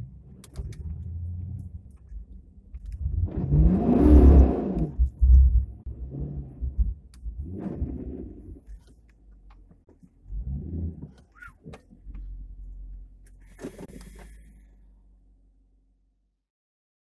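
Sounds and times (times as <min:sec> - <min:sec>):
car engine rumbling: 0:00.0 - 0:16.3.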